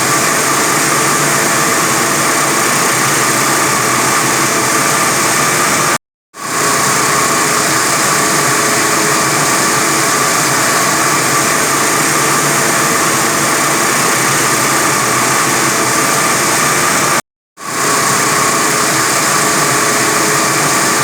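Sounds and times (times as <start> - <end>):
wire saw cutting concrete: 0.0 - 21.0.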